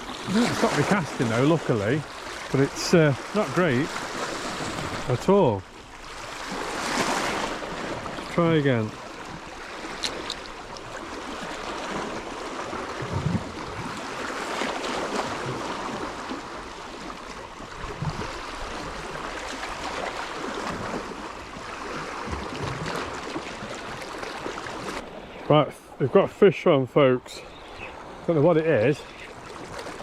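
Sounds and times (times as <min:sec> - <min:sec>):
sea waves lapping against rocks: 0:00.0 - 0:26.0, 0:27.7 - 0:30.0.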